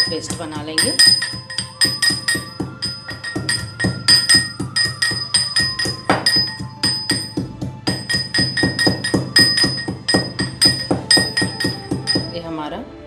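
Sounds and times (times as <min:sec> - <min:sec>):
pestle pounding in metal mortar: 0:00.0 - 0:12.4.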